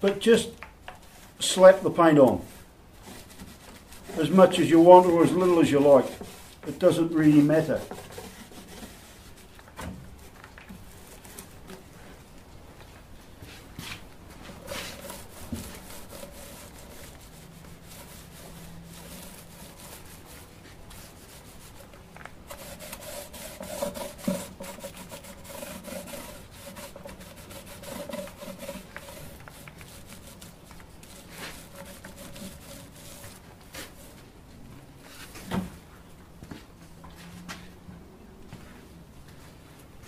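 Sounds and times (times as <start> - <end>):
paint roller rubbing: 0.1 - 12.3, 13.4 - 34.4.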